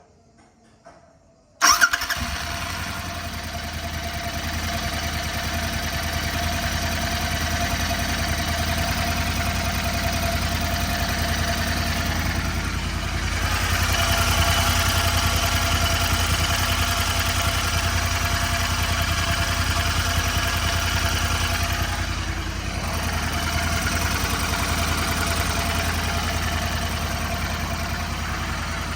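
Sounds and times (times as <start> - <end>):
motorcycle engine starting and idling: 1.6 - 28.9.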